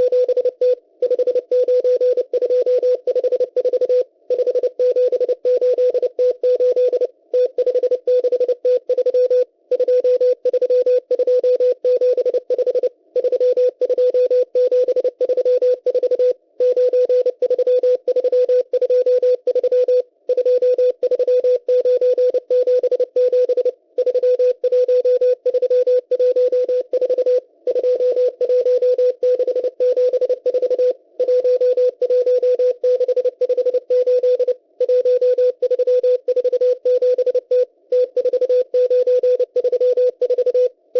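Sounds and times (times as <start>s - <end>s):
morse code beeps: 0.0s - 40.8s.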